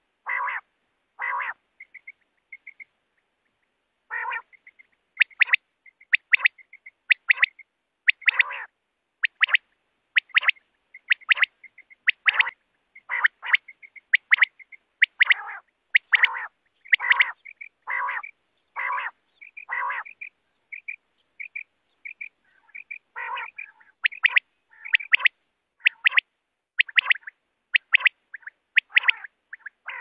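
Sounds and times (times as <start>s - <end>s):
quail calling: 0.2s - 2.9s, 4.1s - 30.0s.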